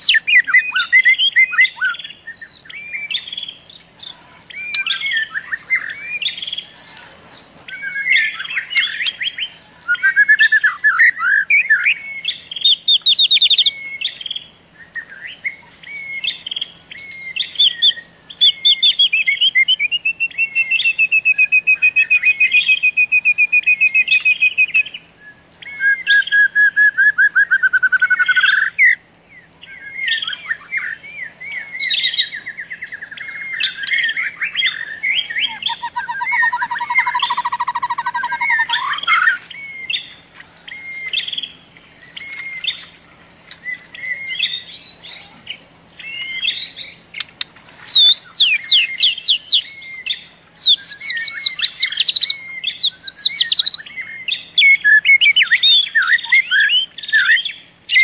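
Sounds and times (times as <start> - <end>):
birds singing and chirping: 0.0 - 58.0.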